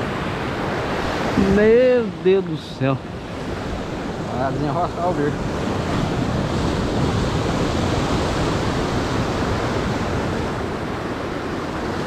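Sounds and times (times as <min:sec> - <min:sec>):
sea surf breaking over rocks: 0:00.0 - 0:12.0.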